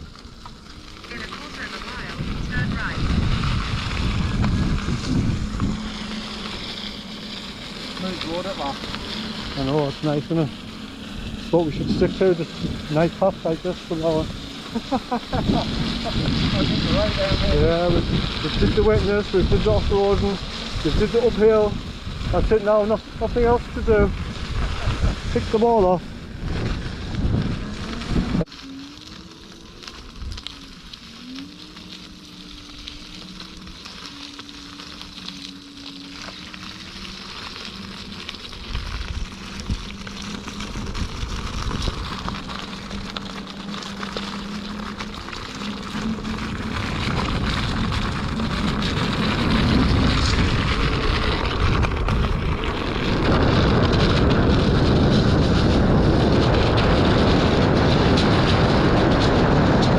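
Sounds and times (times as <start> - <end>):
hub-motor whine: 0.0 - 59.9
wind rushing over microphone: 1.1 - 28.5, 36.6 - 59.9.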